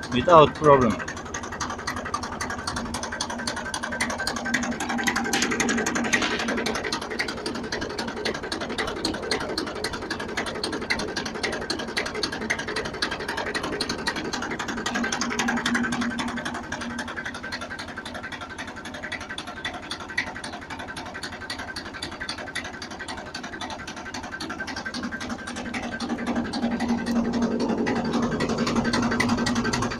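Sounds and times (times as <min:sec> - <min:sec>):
engine hum: 0:00.0 - 0:29.9.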